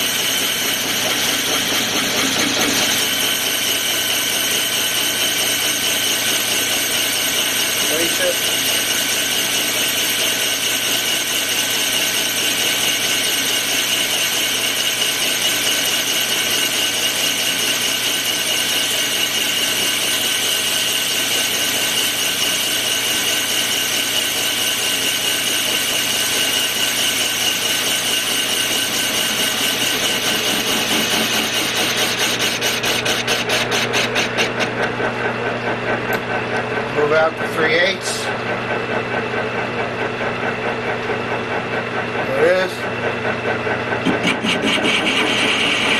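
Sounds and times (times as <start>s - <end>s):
file grinding on lathe: 0.0s - 38.6s, 40.1s - 45.9s.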